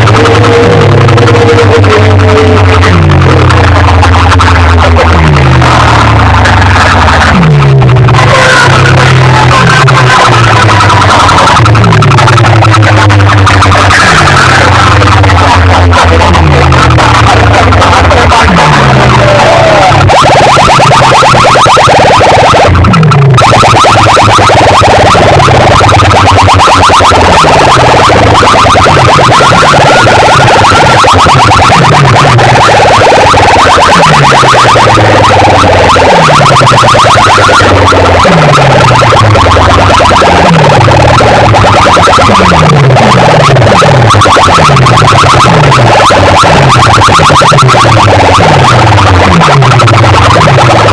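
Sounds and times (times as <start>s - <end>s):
loud electronic dance music: 0.0s - 50.9s.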